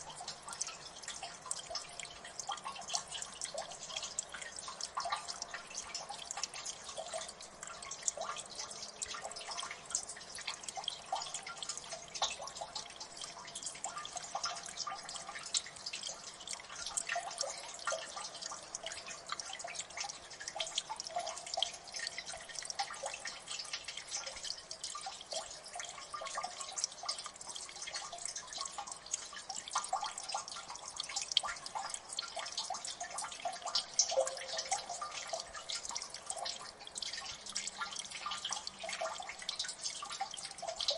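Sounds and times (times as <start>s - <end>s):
water dripping: 0.0s - 40.9s.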